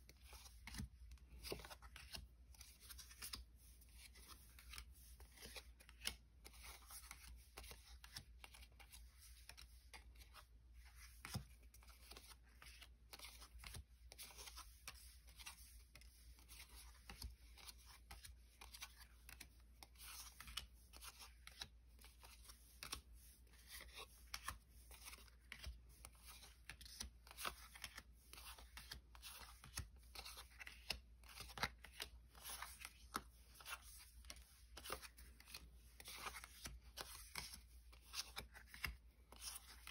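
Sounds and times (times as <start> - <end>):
cards sliding together: 0.2 - 39.9.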